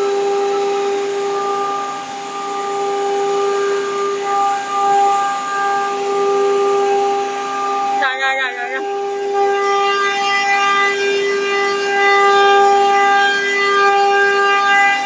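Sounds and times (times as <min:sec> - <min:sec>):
router spindle whine cutting wood: 0:00.0 - 0:15.0.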